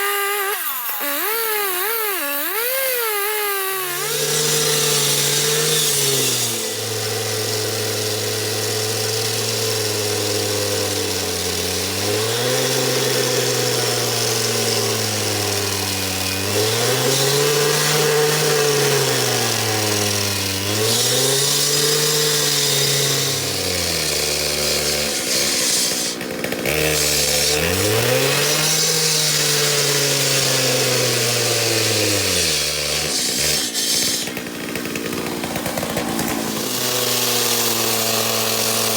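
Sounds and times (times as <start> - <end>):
concrete saw cutting concrete: 0.0 - 38.9.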